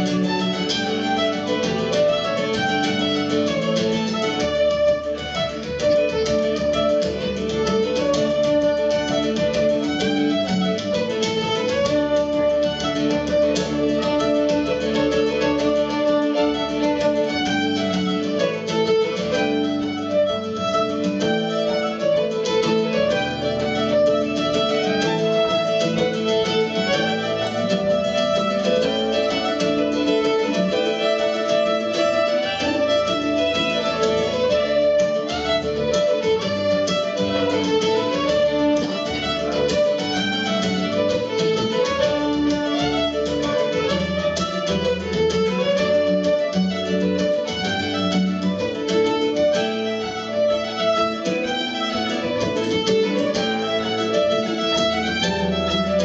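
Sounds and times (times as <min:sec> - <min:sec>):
acoustic guitar accompaniment: 0:00.0 - 0:56.0
fiddles playing a folk tune: 0:00.0 - 0:56.0.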